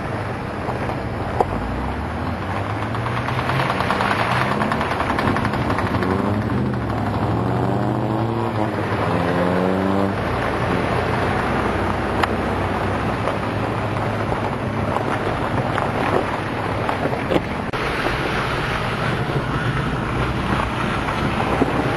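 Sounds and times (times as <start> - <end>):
truck engine revving: 1.4 - 21.9.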